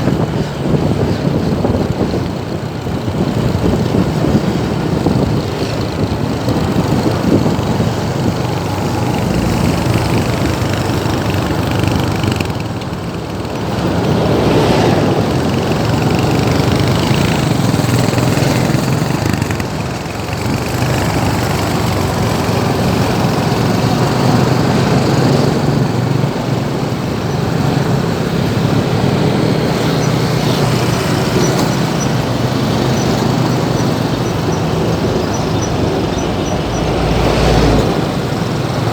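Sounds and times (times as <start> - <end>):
vehicle engines in slow traffic: 0.0 - 38.9.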